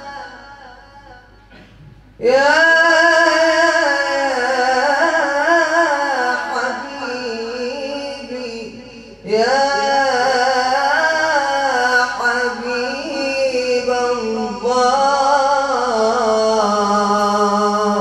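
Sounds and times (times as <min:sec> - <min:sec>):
man singing into a microphone: 0:00.0 - 0:01.4, 0:02.2 - 0:18.0.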